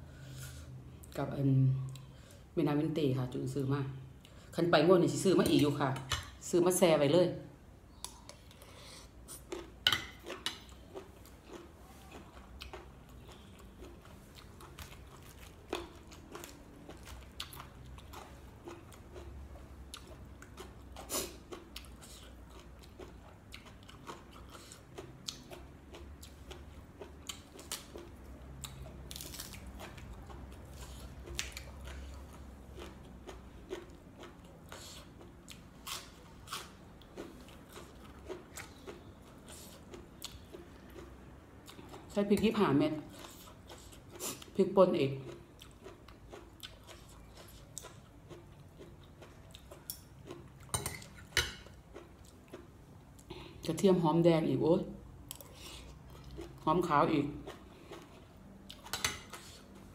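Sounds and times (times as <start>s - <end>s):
person chewing crunchy food: 7.9s - 42.2s, 43.1s - 44.6s, 45.2s - 53.4s, 55.2s - 56.6s, 57.3s - 59.9s.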